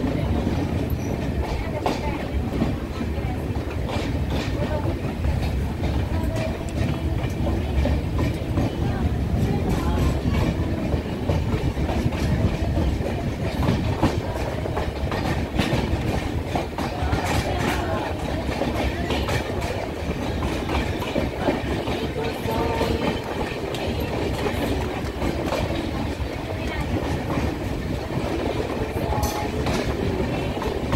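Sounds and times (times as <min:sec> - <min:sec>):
clacks over rail joints: 0:00.0 - 0:30.9
train wheels rumbling: 0:00.0 - 0:30.9.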